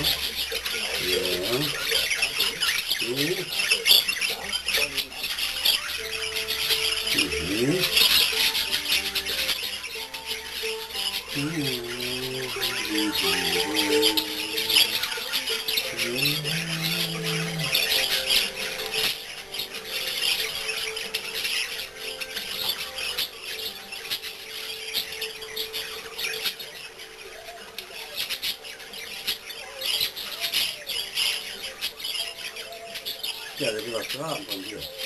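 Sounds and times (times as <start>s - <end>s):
budgerigars chattering and warbling: 0.0s - 35.0s.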